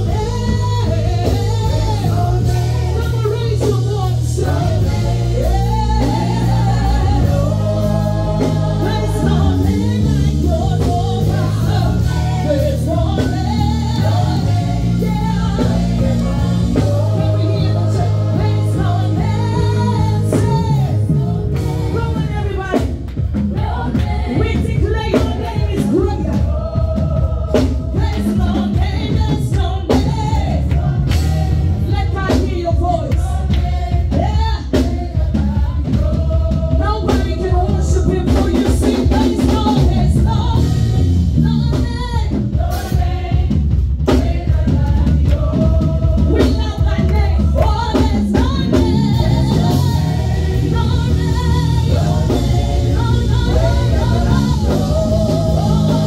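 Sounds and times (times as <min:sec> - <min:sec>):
backing vocalists singing: 0:00.0 - 0:56.0
drums: 0:00.0 - 0:56.0
keyboard: 0:00.0 - 0:56.0
lead singer singing: 0:00.0 - 0:56.0.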